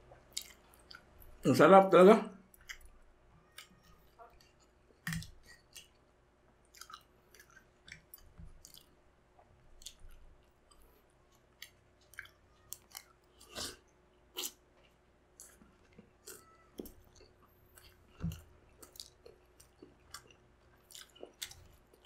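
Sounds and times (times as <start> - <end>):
chewing and wet mouth smacks: 0.2 - 1.4, 2.5 - 6.0, 6.6 - 22.0.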